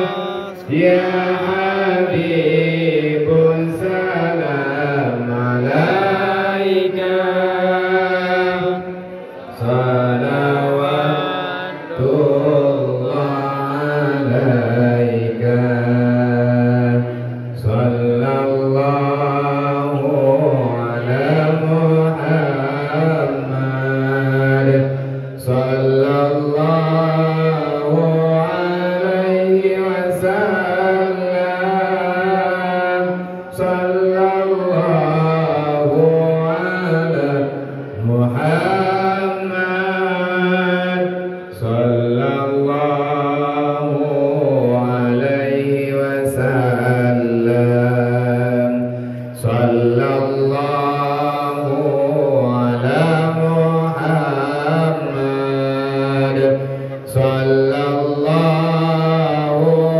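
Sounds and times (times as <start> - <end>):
man chanting: 0.0 - 59.9.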